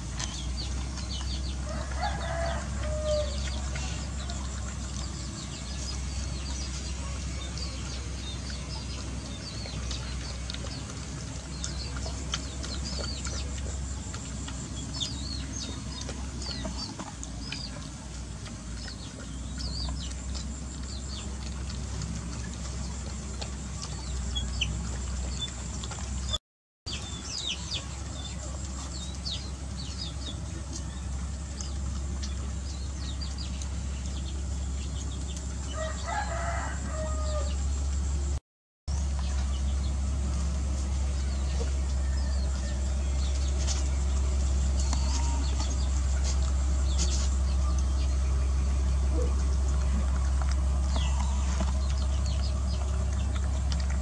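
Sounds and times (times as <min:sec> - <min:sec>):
puppies lapping and chewing: 0:00.0 - 0:54.0
steady low hum: 0:00.0 - 0:54.0.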